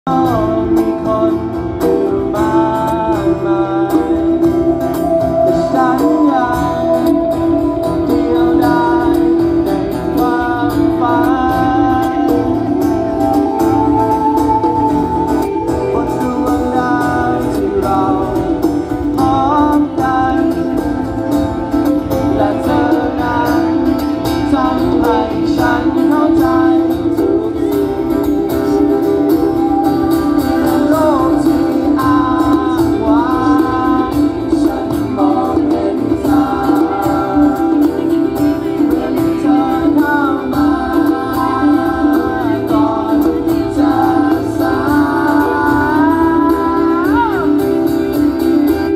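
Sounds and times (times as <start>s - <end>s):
lead voice singing: 0.1s - 48.9s
live rock band playing: 0.1s - 48.9s.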